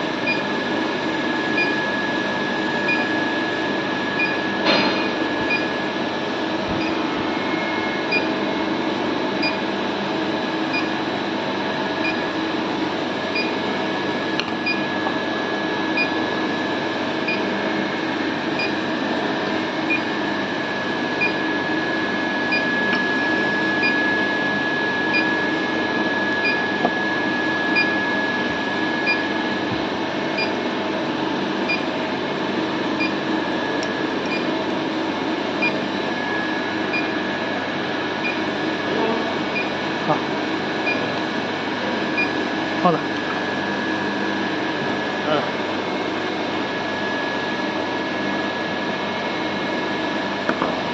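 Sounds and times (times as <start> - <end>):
machine hum with high whine: 0.0 - 50.9.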